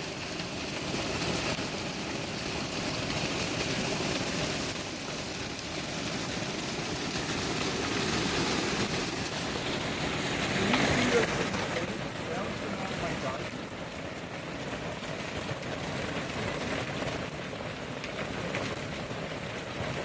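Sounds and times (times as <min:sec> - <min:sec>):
hail hitting the ground: 0:00.0 - 0:20.0.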